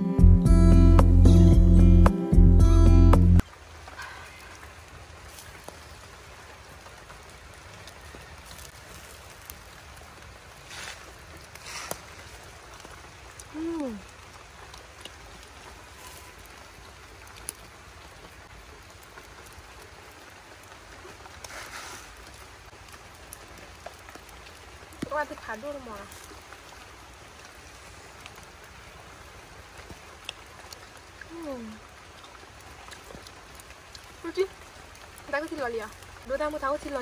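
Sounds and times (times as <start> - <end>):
light rain falling: 0.0 - 37.0.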